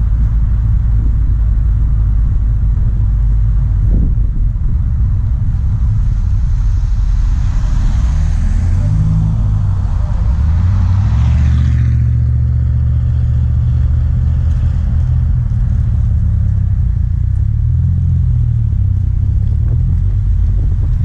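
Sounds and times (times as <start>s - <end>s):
car engine humming: 0.0s - 21.0s
wind and road noise: 0.0s - 21.0s.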